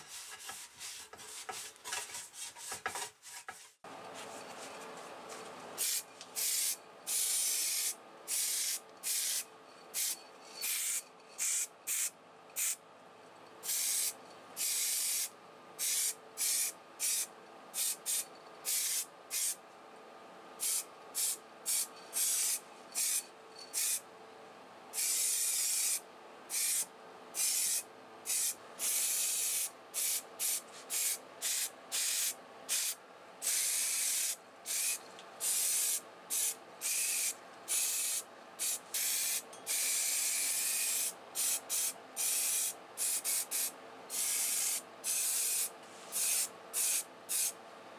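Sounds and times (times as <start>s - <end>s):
spray paint can hissing: 5.8s - 12.8s, 13.6s - 19.6s, 20.6s - 24.0s, 25.0s - 47.6s.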